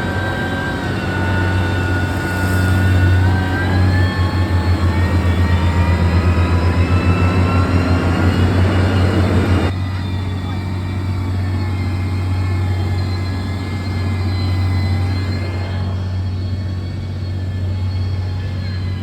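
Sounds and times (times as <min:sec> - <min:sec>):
heavy diesel engine running hard: 0:00.0 - 0:19.0
high whine rising in pitch: 0:00.0 - 0:19.0.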